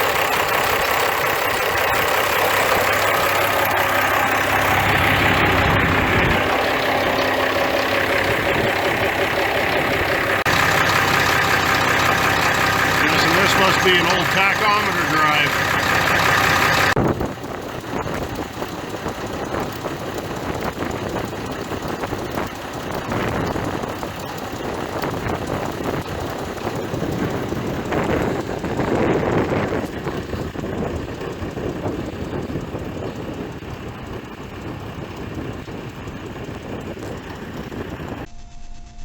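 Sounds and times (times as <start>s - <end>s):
grader diesel engine running: 0.0s - 38.5s.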